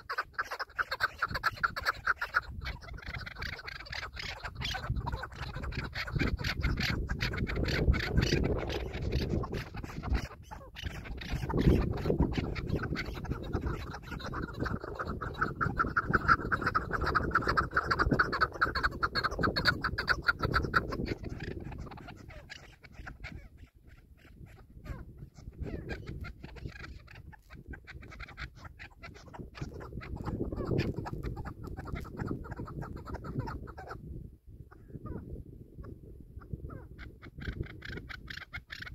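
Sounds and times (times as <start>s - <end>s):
partridge clucking calls: 0.0s - 34.1s, 34.7s - 38.9s
wind rumbling on microphone: 0.0s - 38.9s.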